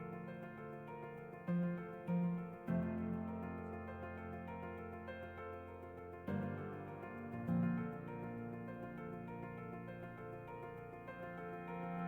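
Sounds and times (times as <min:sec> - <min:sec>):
soft solo piano music: 0:00.0 - 0:12.0.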